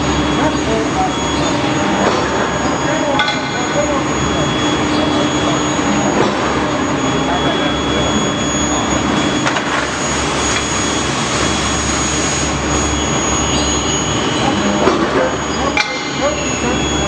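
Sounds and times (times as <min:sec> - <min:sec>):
furnace roaring: 0:00.0 - 0:17.0
high-pitched whine: 0:00.0 - 0:17.0.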